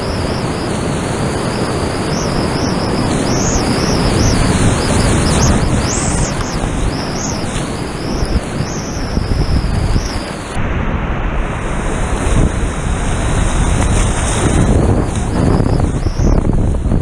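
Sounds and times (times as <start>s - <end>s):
whitewater rushing: 0.0s - 16.6s
wind buffeting microphone: 0.0s - 17.0s.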